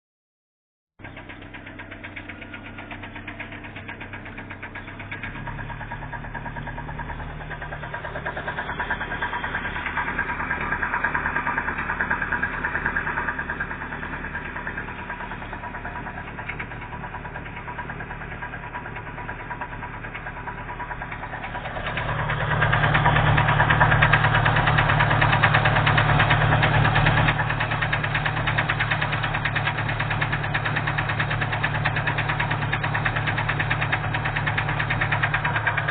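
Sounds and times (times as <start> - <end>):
knocking petrol engine revving: 1.0 - 35.9.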